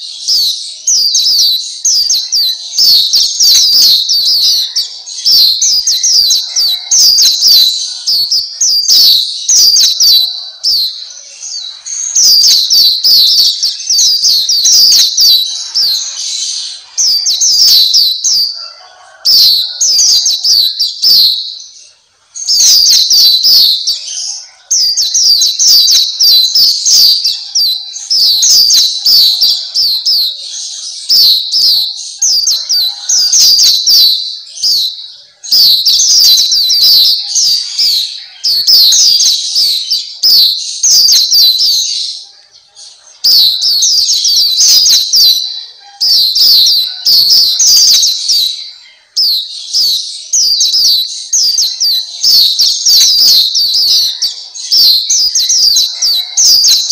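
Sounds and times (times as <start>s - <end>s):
bird high twittering song: 0.0s - 56.9s.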